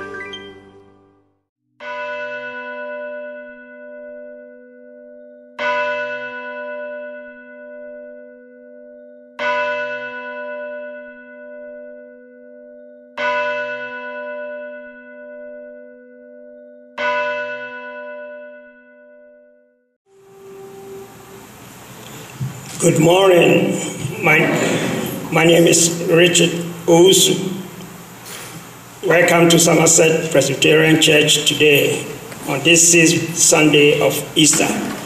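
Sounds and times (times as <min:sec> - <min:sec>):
church bell tolling: 0:01.8 - 0:35.0.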